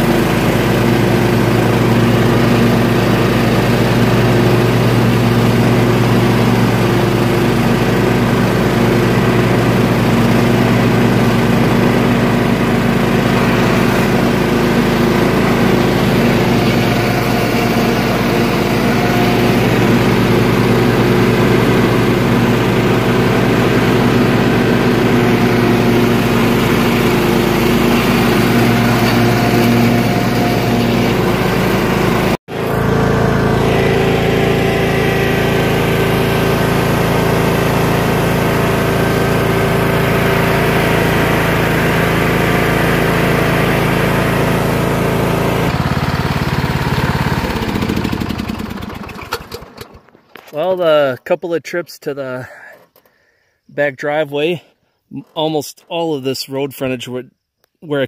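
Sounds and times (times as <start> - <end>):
lawn tractor engine mowing grass: 0.0 - 52.2.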